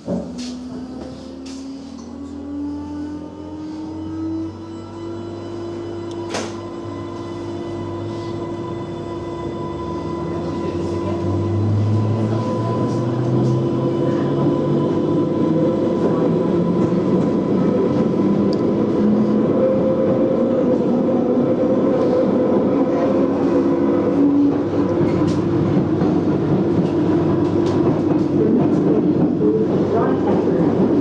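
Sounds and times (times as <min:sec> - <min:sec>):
train wheel and track noise: 0:00.0 - 0:31.0.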